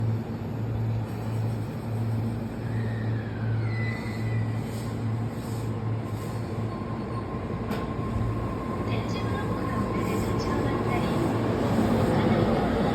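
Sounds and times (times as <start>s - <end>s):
train pulsing low hum: 0.0s - 12.9s.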